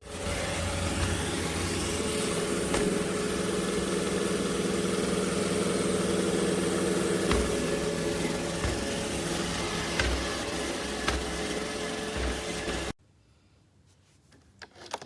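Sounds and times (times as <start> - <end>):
robot vacuum whirring hum: 0.0 - 13.0.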